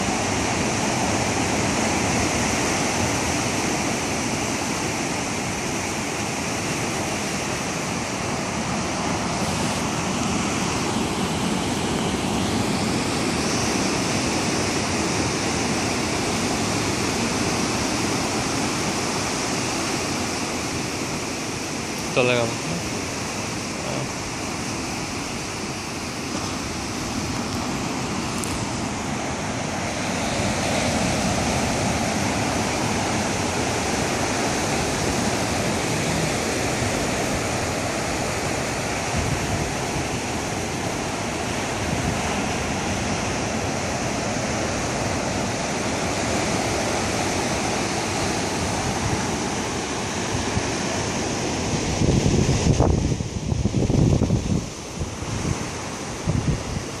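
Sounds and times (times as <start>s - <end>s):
surf washing over stony shore: 0.0s - 57.0s.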